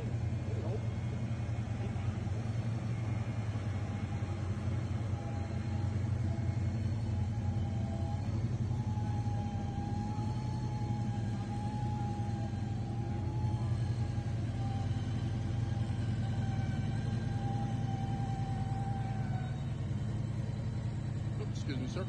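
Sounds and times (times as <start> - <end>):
hall background rumble: 0.0 - 22.0.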